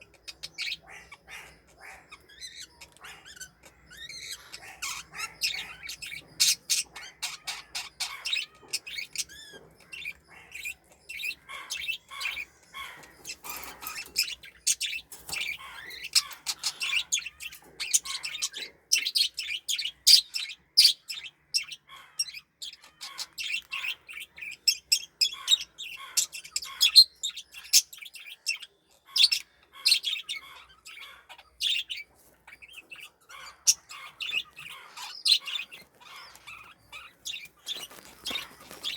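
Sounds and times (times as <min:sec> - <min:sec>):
cockatiel chirping: 0:00.0 - 0:21.8, 0:28.6 - 0:38.9.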